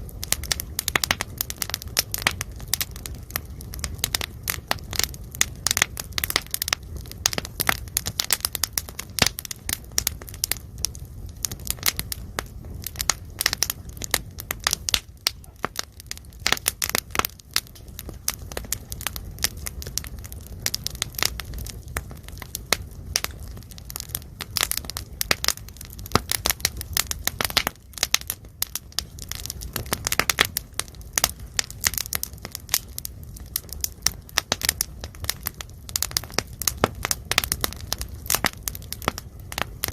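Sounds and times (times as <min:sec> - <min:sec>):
low steady rumble: 0:00.0 - 0:39.9.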